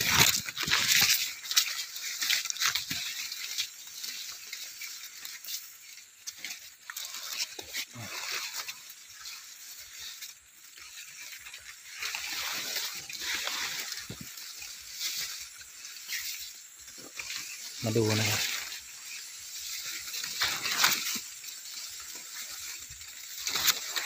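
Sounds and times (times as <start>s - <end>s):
dry corn leaves rustling: 0.0s - 24.0s.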